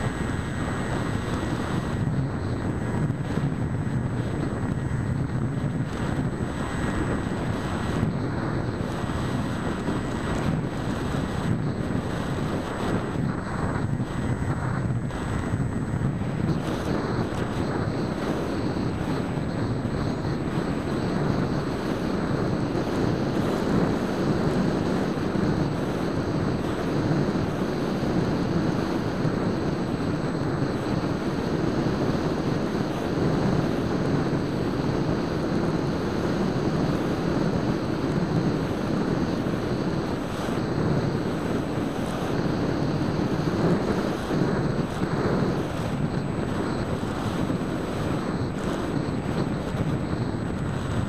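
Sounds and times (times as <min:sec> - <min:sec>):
wind rush over microphone: 0:00.0 - 0:51.0.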